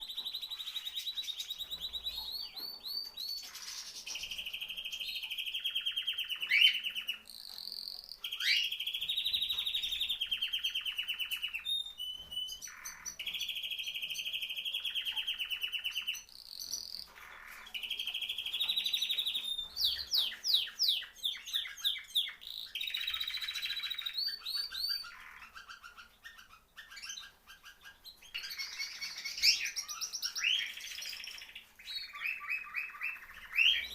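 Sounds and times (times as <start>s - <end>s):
songbird trilling song: 0.0s - 33.9s.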